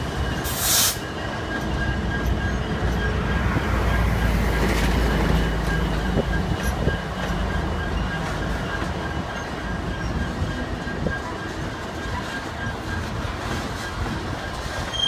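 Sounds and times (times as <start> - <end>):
diesel locomotive rumble: 0.0 - 15.0
freight cars rolling: 0.0 - 15.0
wheel squeal: 0.2 - 15.0.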